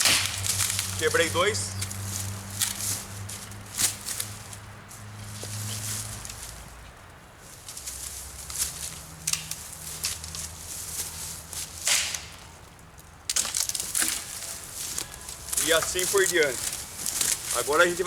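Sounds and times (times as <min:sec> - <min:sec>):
wooden branches cracking: 0:00.0 - 0:04.7, 0:07.5 - 0:18.0.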